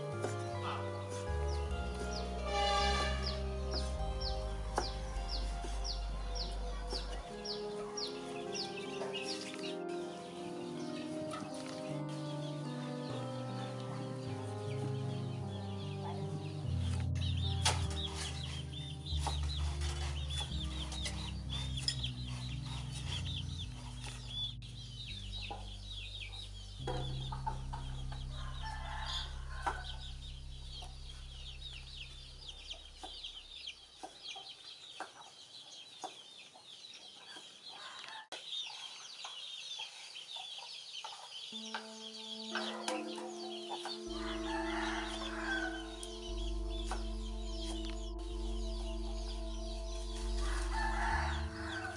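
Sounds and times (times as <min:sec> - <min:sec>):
chickens clucking: 0:00.0 - 0:30.1, 0:32.7 - 0:51.9
background music: 0:00.0 - 0:33.6, 0:41.5 - 0:51.9.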